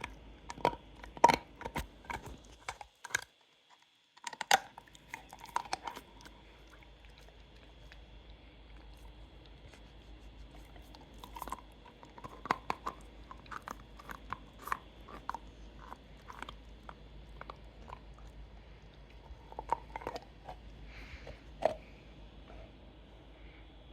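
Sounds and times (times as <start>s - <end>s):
dog chewing crunchy food: 0.0s - 22.6s.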